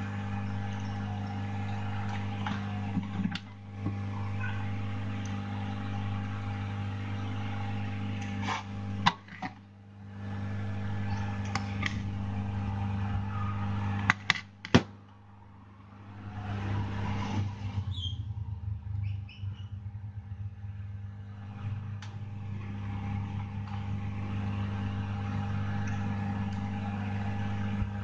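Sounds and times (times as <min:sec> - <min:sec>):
electrical hum with fan whir: 0:00.0 - 0:28.0.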